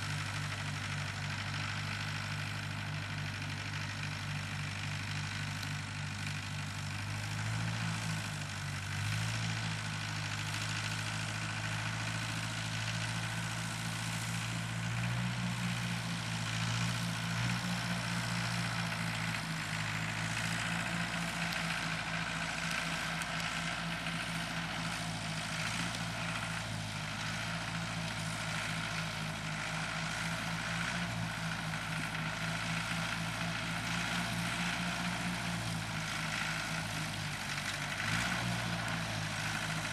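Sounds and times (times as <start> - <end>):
tractor engine throbbing: 0.0 - 39.9.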